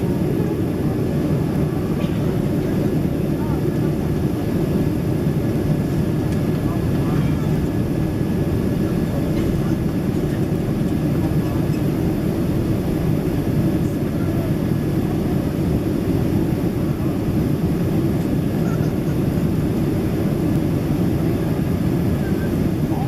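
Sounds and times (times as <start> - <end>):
jet engines and airflow roar: 0.0 - 23.0.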